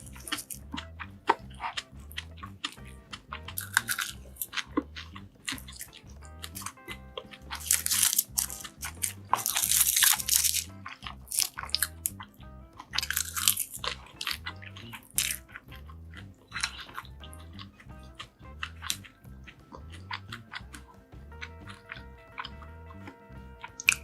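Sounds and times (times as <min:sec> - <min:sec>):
crunchy chewing: 0:00.0 - 0:24.0
soft background music: 0:00.0 - 0:24.0.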